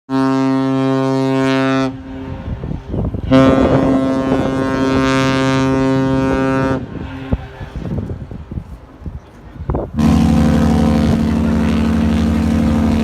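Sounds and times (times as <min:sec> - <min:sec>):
ship horn deep blasts: 0:00.1 - 0:07.7, 0:09.9 - 0:13.0
wind noise on microphone: 0:01.4 - 0:13.0.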